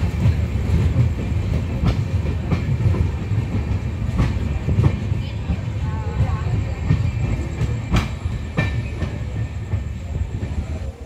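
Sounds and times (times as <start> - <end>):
sharp clacks of train wheels: 0.0 - 11.0
train wheels rumbling on rail: 0.0 - 11.0.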